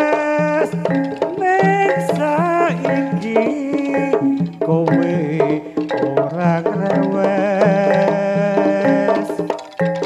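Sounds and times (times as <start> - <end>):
quick hand-drum strokes: 0.0 - 10.0
wavering held melody with vibrato: 0.0 - 10.0.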